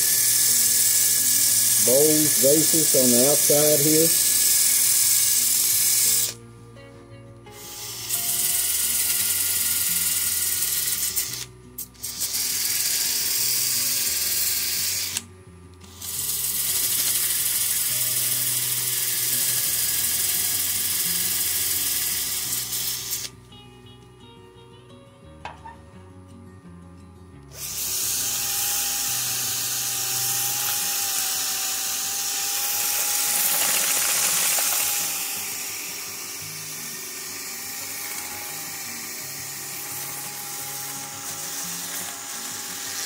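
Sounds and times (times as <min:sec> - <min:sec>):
sanding pad hissing on wood: 0:00.0 - 0:06.4, 0:07.5 - 0:11.1, 0:12.2 - 0:15.1, 0:16.1 - 0:23.2, 0:27.7 - 0:43.0.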